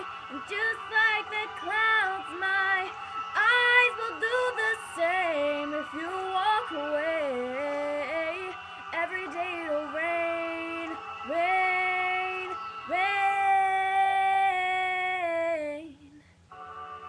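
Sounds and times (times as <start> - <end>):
girl singing without words: 0.0 - 16.2.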